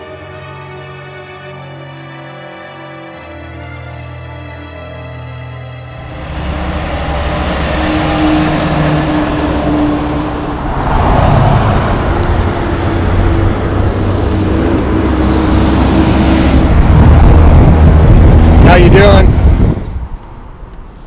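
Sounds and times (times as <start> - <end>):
truck engine and tyre noise: 0.0 - 21.0.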